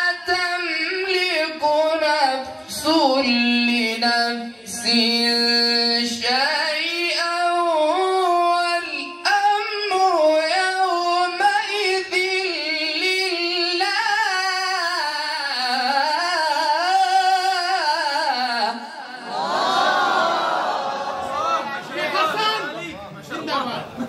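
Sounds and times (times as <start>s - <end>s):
person reciting melodically: 0.0s - 19.3s.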